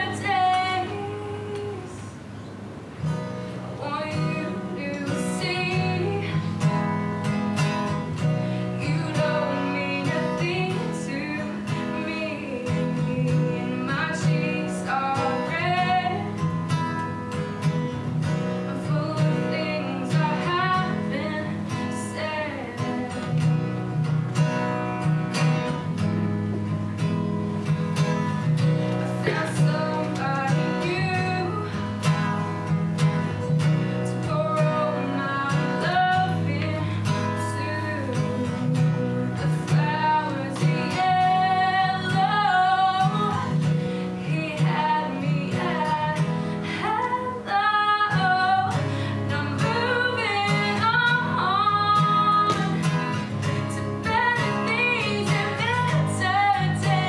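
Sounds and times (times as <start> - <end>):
woman singing: 0.0 - 2.3, 3.8 - 23.7, 29.0 - 57.0
acoustic guitar strummed: 0.0 - 57.0.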